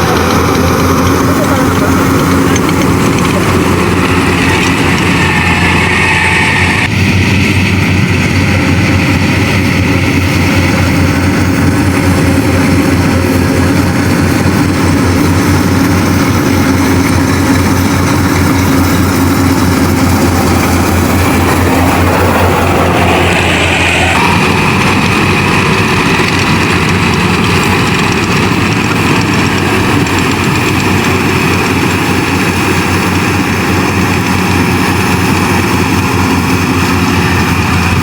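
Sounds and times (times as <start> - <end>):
combine harvester engine humming: 0.0 - 38.0
higher whirring: 0.0 - 38.0.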